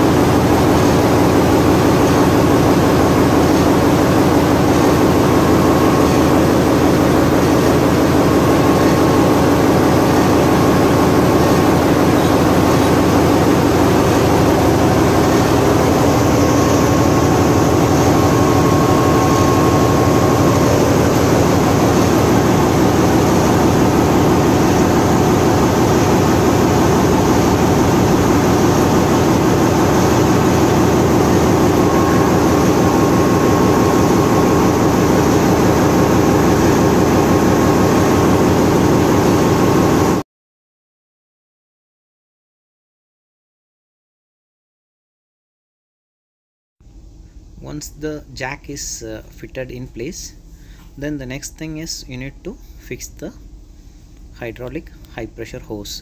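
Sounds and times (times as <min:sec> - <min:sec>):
diesel engine room drone: 0:00.0 - 0:40.2, 0:46.9 - 0:56.0.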